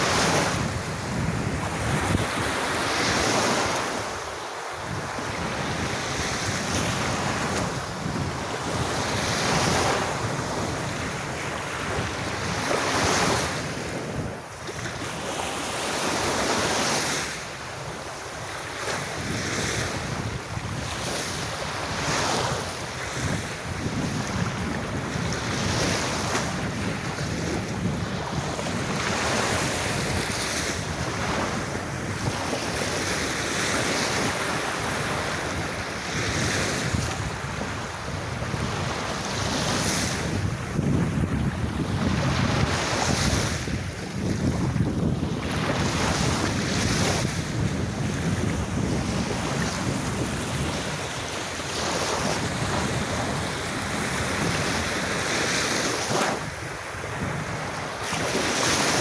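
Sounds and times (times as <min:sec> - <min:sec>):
sea waves washing onto beach: 0:00.0 - 0:59.0
wind buffeting microphone: 0:00.0 - 0:59.0.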